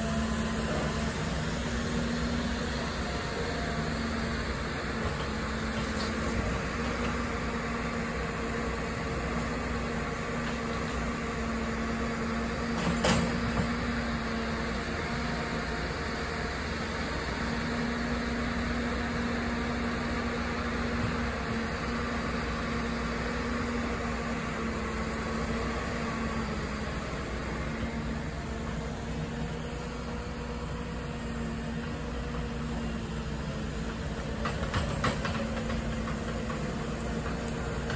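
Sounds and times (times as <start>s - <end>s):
excavator diesel engine drone: 0.0s - 37.9s.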